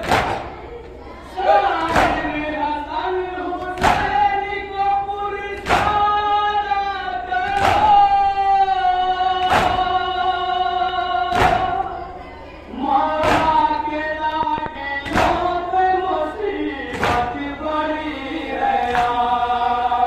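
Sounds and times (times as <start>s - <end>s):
men chanting together: 1.2s - 12.1s, 12.7s - 20.0s.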